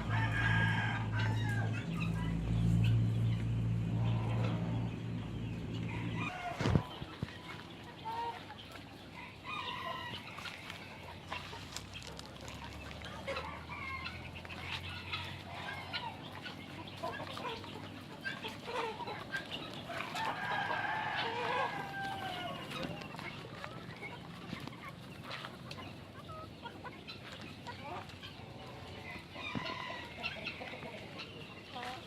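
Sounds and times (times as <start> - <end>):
chickens clucking: 0.0 - 32.0
drawn-out chicken call: 0.0 - 32.0.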